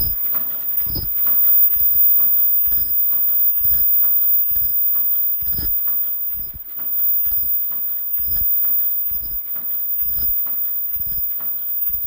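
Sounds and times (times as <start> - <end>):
heavy machine knock: 0.0 - 12.0
machine clunking and clicking: 0.0 - 12.0.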